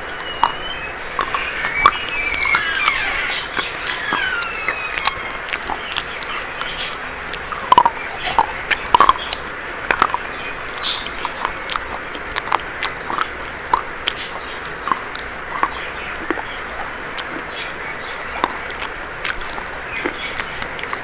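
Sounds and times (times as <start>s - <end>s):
chalk crunching when chewed: 0.0s - 21.0s.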